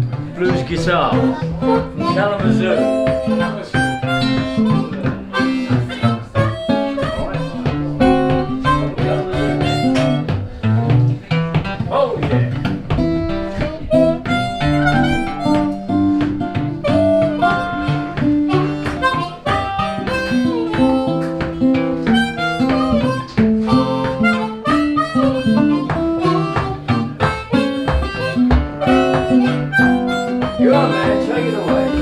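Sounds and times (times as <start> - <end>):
blues harmonica melody: 0.0 - 32.0
plucked acoustic guitar: 0.0 - 32.0.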